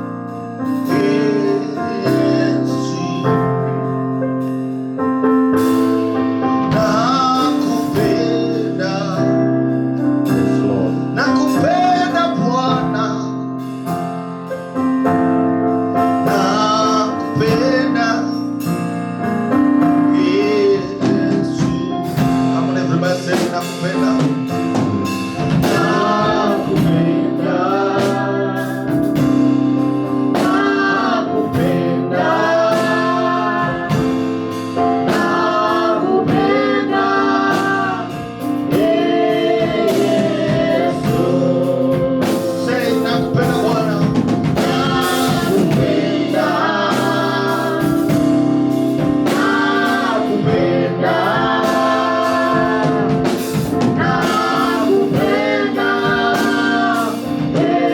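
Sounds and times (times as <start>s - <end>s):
gospel singing: 0.0s - 4.6s, 5.6s - 14.8s, 15.6s - 57.9s
held instrumental chords: 0.0s - 57.9s.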